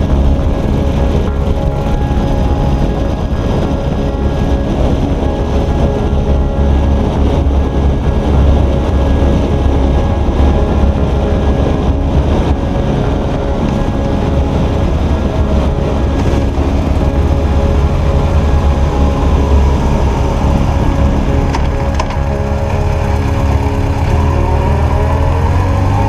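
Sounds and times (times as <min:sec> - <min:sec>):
motorcycle engine cruising: 0:00.0 - 0:26.0
wind buffeting microphone: 0:00.0 - 0:26.0.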